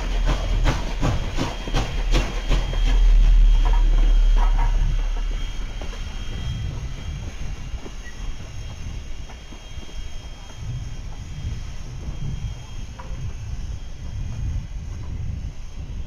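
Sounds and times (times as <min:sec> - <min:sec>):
train wheels clicking over rail joints: 0:00.0 - 0:15.4
low train rumble: 0:00.0 - 0:16.0.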